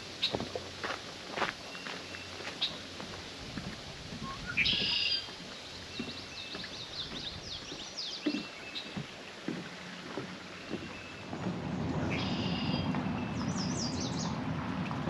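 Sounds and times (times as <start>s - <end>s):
footsteps on wooden planks: 0.2s - 13.2s
songbirds singing: 1.6s - 14.4s.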